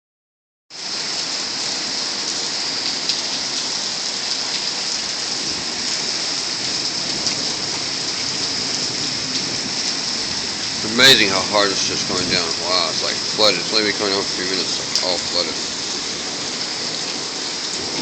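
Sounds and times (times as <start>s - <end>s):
heavy rain pouring: 0.7s - 18.0s.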